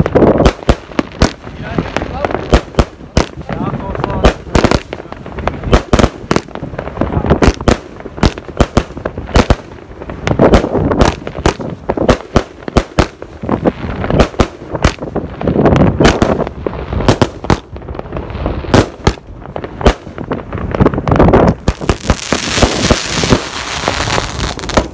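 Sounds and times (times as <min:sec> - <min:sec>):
fireworks crackling: 0:00.0 - 0:24.9
fireworks loud bangs: 0:00.0 - 0:24.9.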